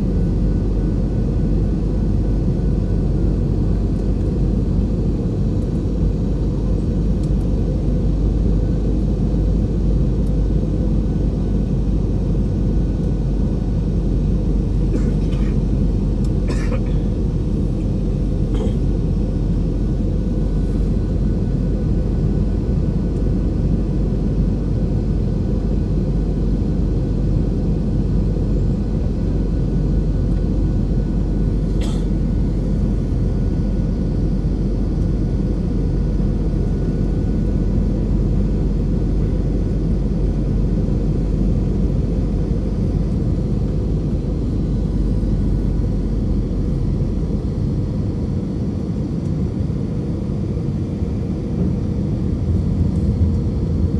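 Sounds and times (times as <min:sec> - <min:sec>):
jet airliner cabin roar: 0:00.0 - 0:53.9.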